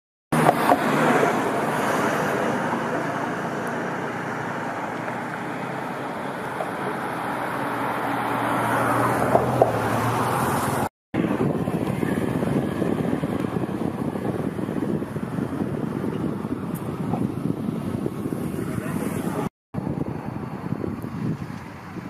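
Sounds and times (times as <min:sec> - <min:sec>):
cars passing: 0:00.3 - 0:22.0.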